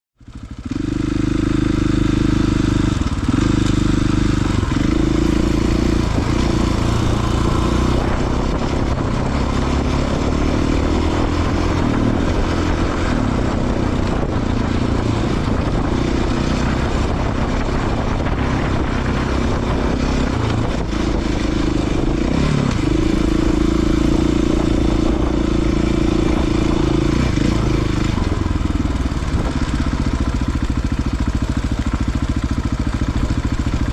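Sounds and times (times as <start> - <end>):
off-road motorcycle engine revving: 0.2 - 33.9.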